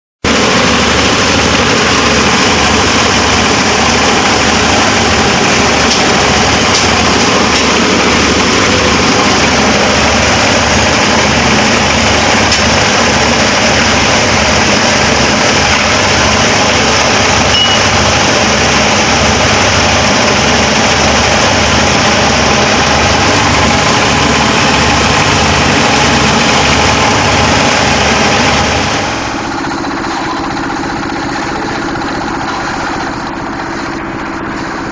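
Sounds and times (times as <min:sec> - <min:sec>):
plastic crusher machine running: 0:00.3 - 0:34.9.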